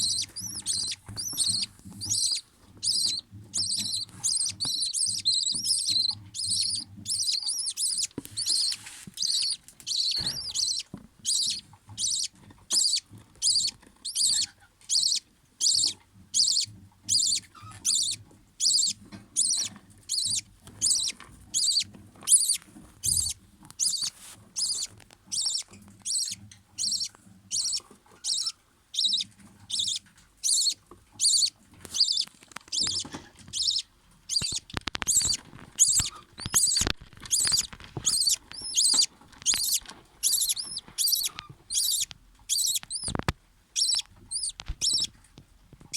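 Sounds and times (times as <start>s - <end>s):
budgerigar chicks peeping: 0.0s - 45.9s.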